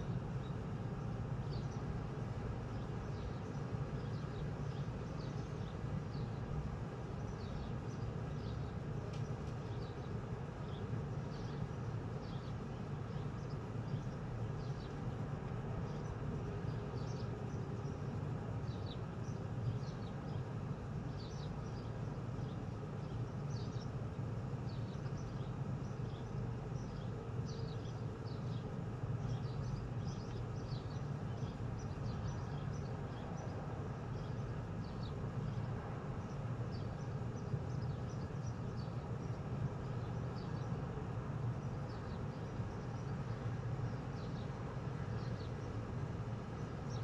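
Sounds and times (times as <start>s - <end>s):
small birds chirping: 0.1s - 47.0s.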